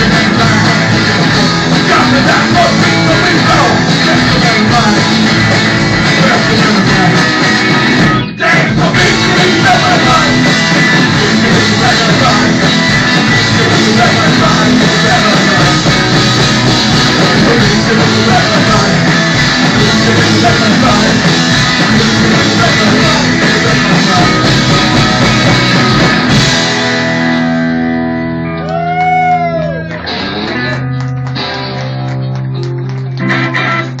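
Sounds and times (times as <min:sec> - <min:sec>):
bass guitar: 0:00.0 - 0:34.0
drums: 0:00.0 - 0:34.0
electric guitars: 0:00.0 - 0:34.0.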